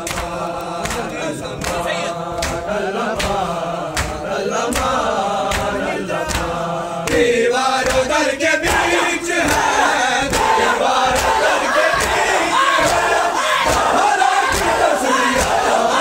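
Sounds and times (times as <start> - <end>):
hands beating on chests: 0.0 - 15.8
men chanting together: 0.0 - 16.0.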